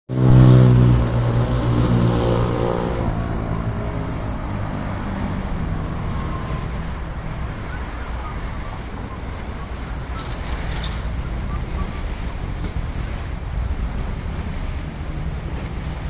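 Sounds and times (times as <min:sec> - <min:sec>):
boat engine droning: 0:00.1 - 0:16.0.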